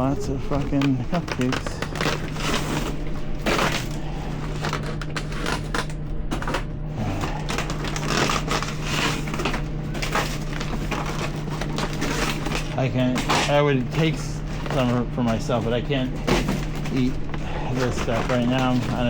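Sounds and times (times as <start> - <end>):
plastic packaging crinkling: 0.0 - 19.0
steady low hum: 0.0 - 19.0.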